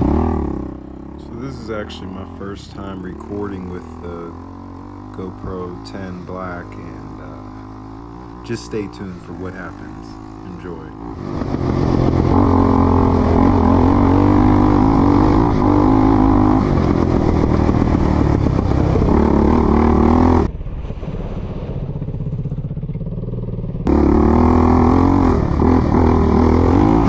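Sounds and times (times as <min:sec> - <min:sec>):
quad engine revving: 0:00.0 - 0:20.5, 0:23.8 - 0:27.0.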